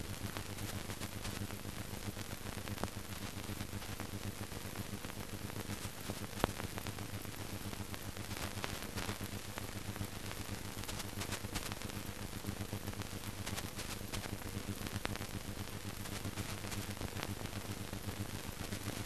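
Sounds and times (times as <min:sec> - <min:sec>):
faint crackles: 0:00.0 - 0:19.0
film soundtrack hiss: 0:00.0 - 0:19.0
low mains hum: 0:00.0 - 0:19.0.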